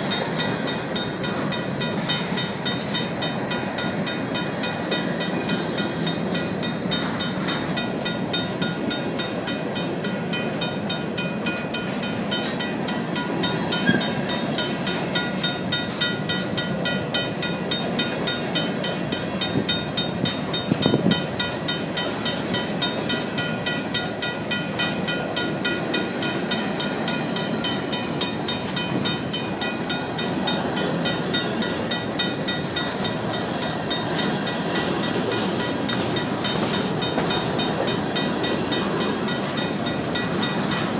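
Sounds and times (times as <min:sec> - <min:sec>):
hopper cars rolling on rails: 0:00.0 - 0:40.9
mechanical crossing bell ringing: 0:00.0 - 0:40.9.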